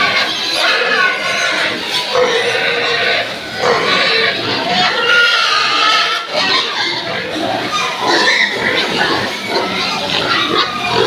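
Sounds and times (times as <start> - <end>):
pigs squealing: 0.0 - 11.0.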